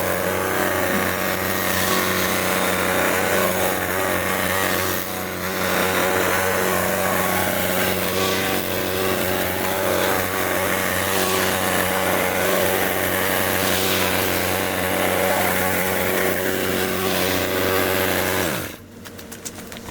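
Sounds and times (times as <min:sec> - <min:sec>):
lawn mower engine running: 0:00.0 - 0:19.9.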